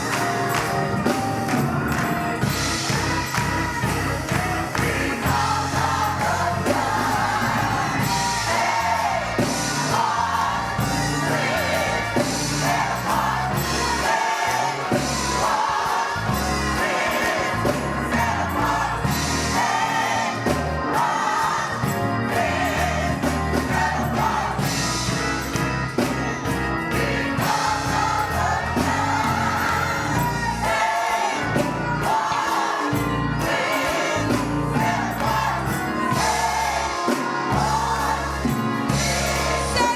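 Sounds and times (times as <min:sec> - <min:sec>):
gospel choir singing: 0:00.0 - 0:39.9
musical accompaniment: 0:00.0 - 0:39.9.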